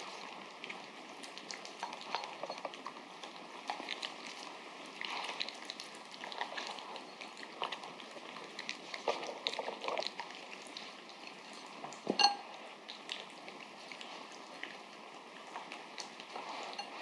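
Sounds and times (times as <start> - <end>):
dog chewing and licking: 0.0 - 17.0.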